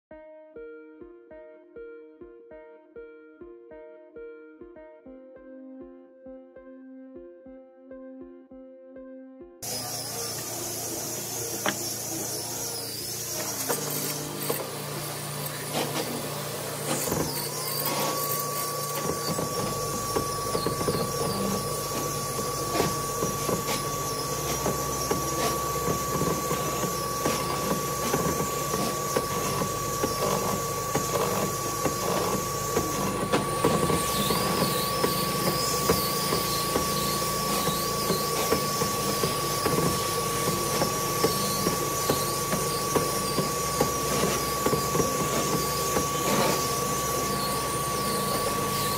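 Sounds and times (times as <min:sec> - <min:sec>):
drill bit cutting wood: 0:09.6 - 0:48.9
machine motor whining: 0:09.6 - 0:48.9.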